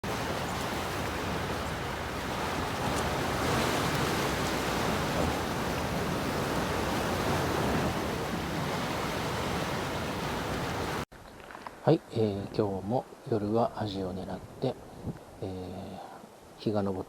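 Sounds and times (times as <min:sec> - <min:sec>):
sea waves washing against shore: 0:00.0 - 0:15.6
wind: 0:00.0 - 0:17.0.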